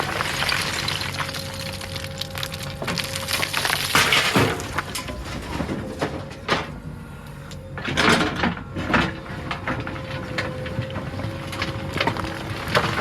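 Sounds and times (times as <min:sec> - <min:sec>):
bucket clanking and crunching soil: 0:00.0 - 0:06.8, 0:07.8 - 0:13.0
diesel engine running: 0:00.0 - 0:13.0
hydraulic whine: 0:00.0 - 0:13.0.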